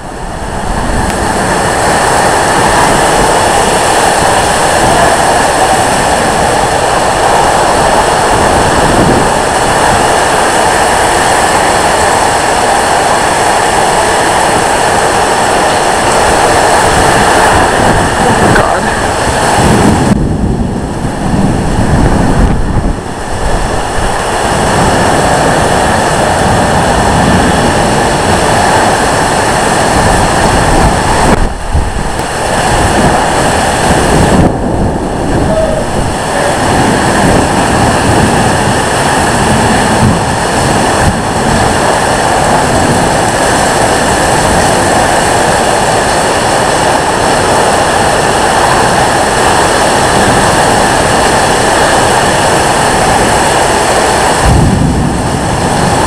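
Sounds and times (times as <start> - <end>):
roaring wind: 0.0 - 56.0
torrential rain: 0.0 - 56.0.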